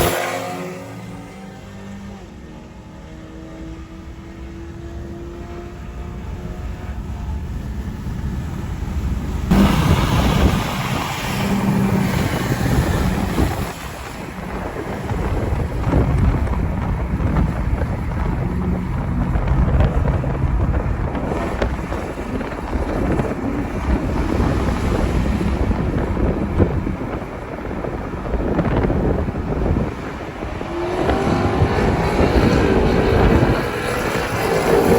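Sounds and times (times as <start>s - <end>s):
racing engines at full throttle: 0.0s - 34.9s
wind buffeting microphone: 0.0s - 34.9s.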